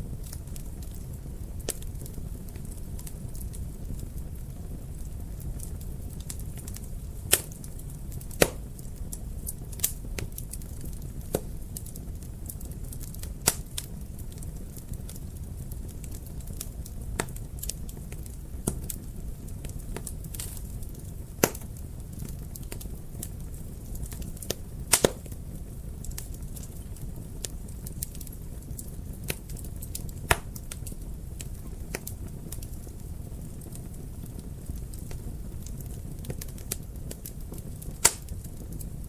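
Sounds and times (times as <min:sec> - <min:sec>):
fire crackles and pops: 0:00.0 - 0:39.0
rumble of flames: 0:00.0 - 0:39.0.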